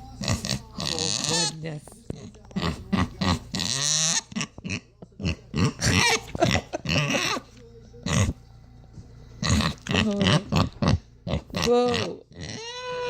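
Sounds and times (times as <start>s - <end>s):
pig grunting and squealing: 0.0s - 8.4s, 9.4s - 13.0s.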